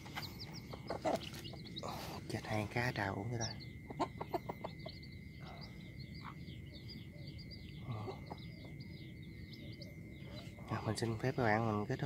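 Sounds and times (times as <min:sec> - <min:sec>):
small animals chirping: 0:00.0 - 0:12.0.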